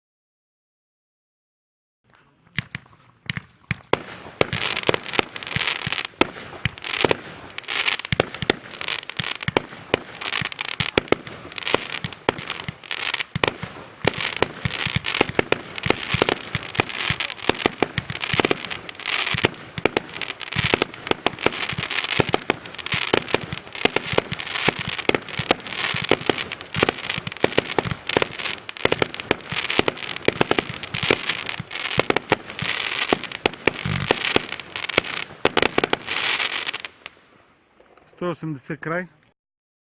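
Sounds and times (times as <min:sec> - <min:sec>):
firework crackling: 0:02.2 - 0:38.6
firework launch pops and bursts: 0:02.5 - 0:38.1.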